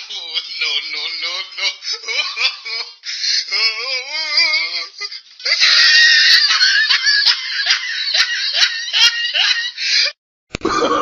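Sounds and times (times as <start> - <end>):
comic laughter effects: 0.0 - 11.0.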